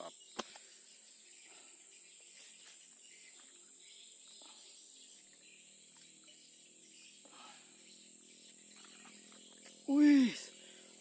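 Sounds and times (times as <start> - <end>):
faint insect chorus: 0.0 - 11.0.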